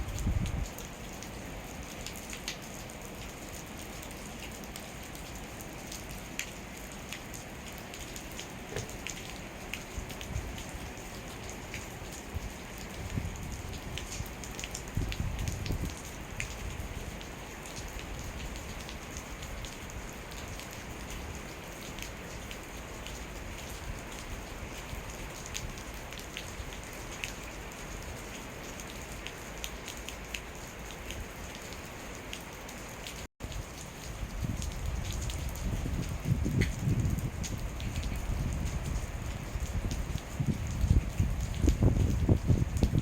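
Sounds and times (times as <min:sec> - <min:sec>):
sharp water drips: 0:00.0 - 0:43.0
steady rain hiss: 0:00.0 - 0:43.0.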